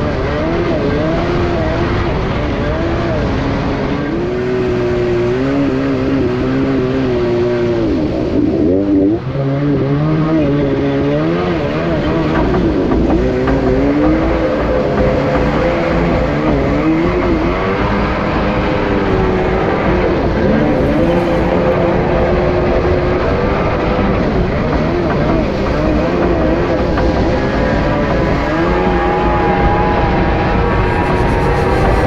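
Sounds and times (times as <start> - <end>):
jet ski engine: 0.0 - 32.0.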